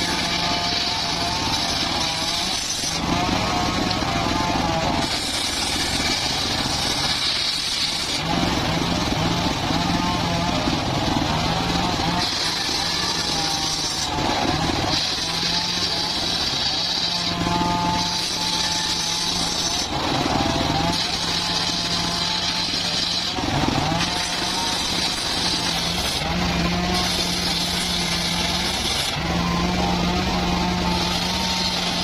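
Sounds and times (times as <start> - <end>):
saw blade cutting timber: 0.0 - 32.0
sawmill engine droning: 0.0 - 32.0.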